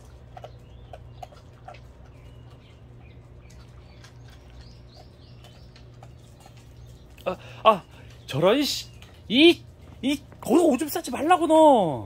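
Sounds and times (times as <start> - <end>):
dogs crunching dry kibble: 0.0 - 11.5
low steady hum: 0.0 - 12.0
small birds chirping: 0.0 - 12.0.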